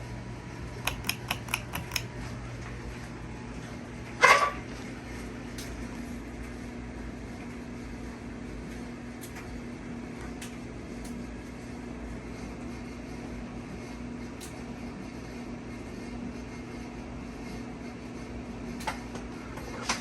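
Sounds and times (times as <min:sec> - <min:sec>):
ceiling fan motor hum: 0:00.0 - 0:20.0.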